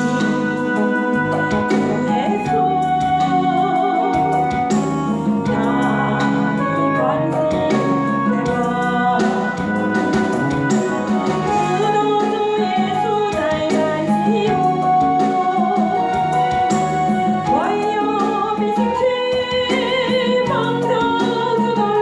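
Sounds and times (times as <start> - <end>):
instrumental accompaniment: 0.0 - 22.0
person singing: 0.0 - 22.0.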